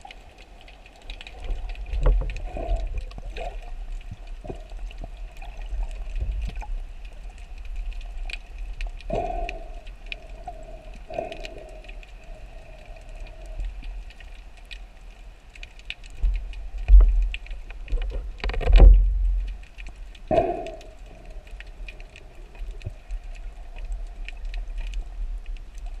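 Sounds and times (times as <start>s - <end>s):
small clicks and crackles: 0.0s - 26.0s
water rushing underwater: 0.0s - 26.0s.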